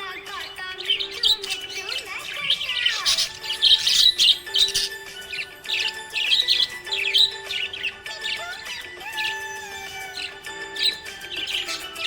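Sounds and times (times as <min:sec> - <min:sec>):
background music with held notes: 0:00.0 - 0:12.0
budgerigars chirping: 0:00.0 - 0:12.0.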